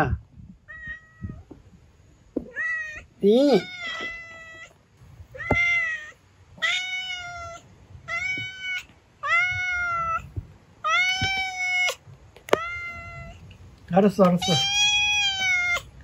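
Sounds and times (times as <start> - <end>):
cat meowing: 0.6 - 1.5, 2.4 - 13.5, 14.4 - 16.0.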